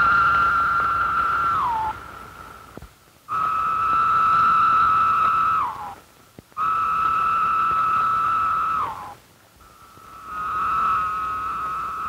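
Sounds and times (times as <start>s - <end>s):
cicada song: 0.0s - 2.4s, 3.3s - 6.0s, 6.6s - 12.0s.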